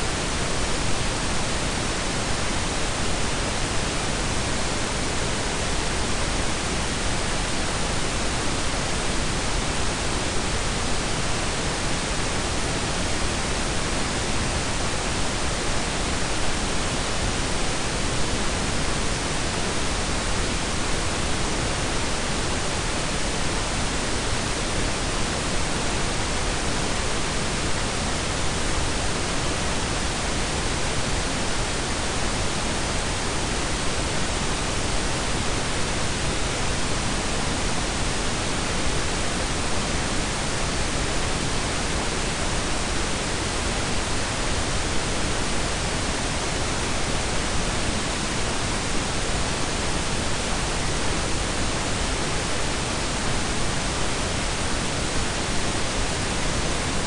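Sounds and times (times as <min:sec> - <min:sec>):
pink and brown noise hiss: 0:00.0 - 0:57.0.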